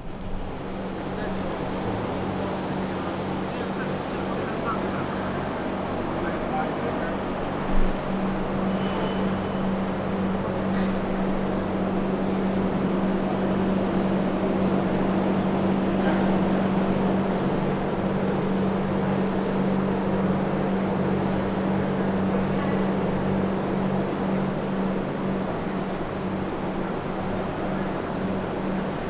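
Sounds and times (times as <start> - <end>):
machinery drone: 0.0 - 29.0.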